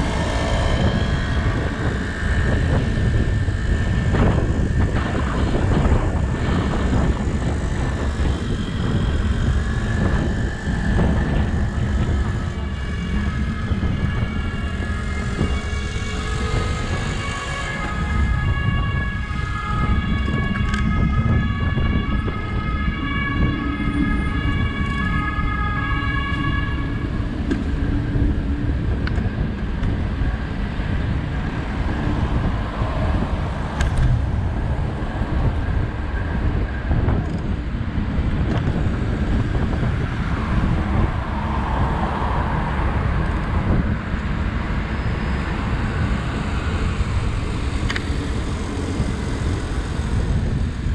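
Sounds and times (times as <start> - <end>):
street traffic rumble: 0.0 - 50.9
two-tone siren: 0.0 - 50.9.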